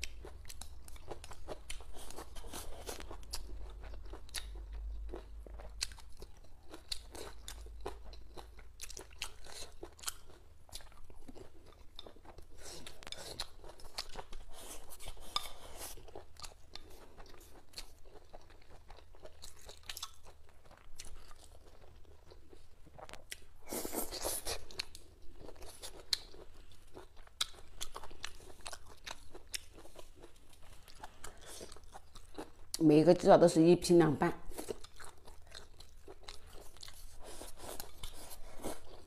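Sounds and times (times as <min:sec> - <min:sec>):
person chewing crunchy food: 0:00.0 - 0:32.8, 0:34.5 - 0:39.0.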